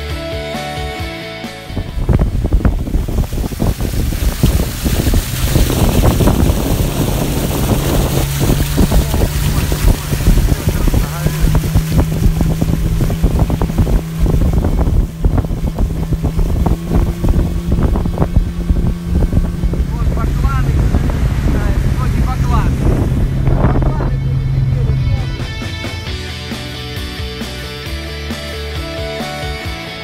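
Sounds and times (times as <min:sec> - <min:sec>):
motorboat engine droning: 0:00.0 - 0:30.0
wind buffeting microphone: 0:01.7 - 0:26.2.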